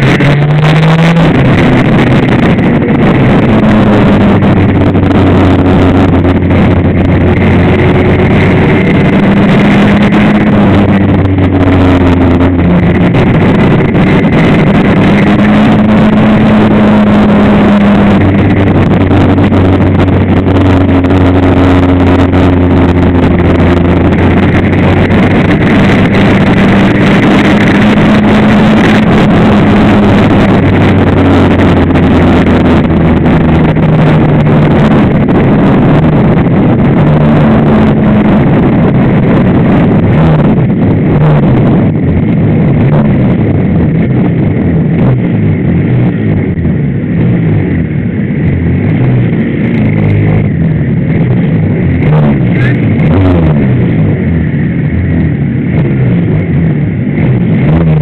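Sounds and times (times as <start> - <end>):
racing motorcycle engine high revs: 0.0 - 58.0
wind rush: 0.0 - 58.0.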